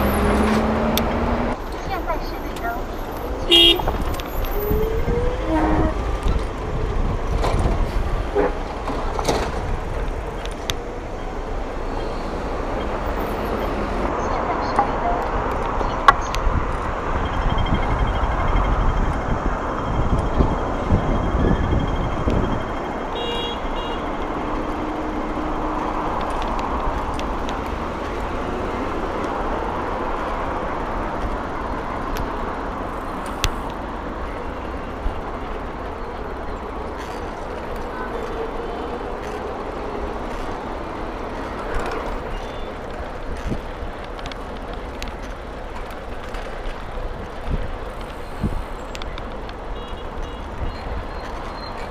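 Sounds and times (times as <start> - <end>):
road traffic: 0.0 - 51.9
wind rumbling on microphone: 2.9 - 23.1, 24.1 - 51.9.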